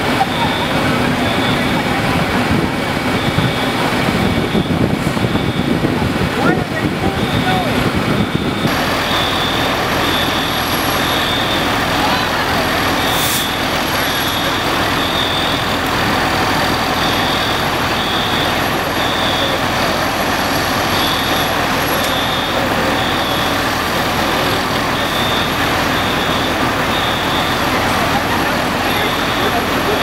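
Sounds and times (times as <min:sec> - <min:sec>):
diesel engines running: 0:00.0 - 0:30.0
high electronic beeps: 0:00.0 - 0:30.0.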